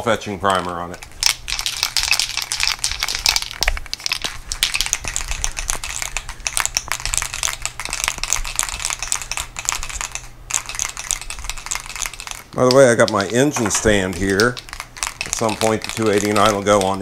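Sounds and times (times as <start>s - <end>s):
aerosol can ball rattling: 0.9s - 17.0s.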